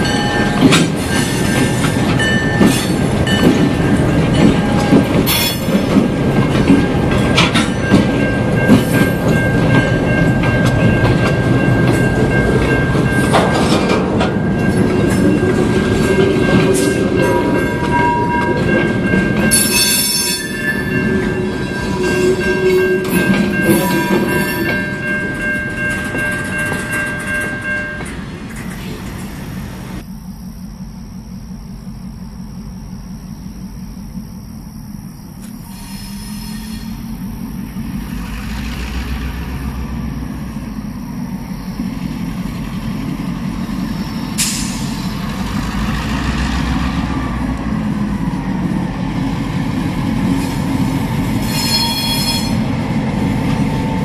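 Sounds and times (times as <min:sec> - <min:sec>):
crossing warning bell ringing: 0:00.0 - 0:30.1, 0:35.6 - 0:54.0
train wheels clacking on rails: 0:00.0 - 0:30.1, 0:35.4 - 0:54.0.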